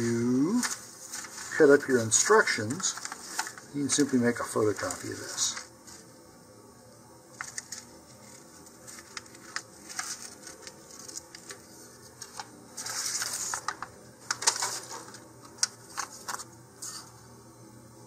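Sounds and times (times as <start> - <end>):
paper rustling: 0.4 - 6.1, 7.4 - 17.1.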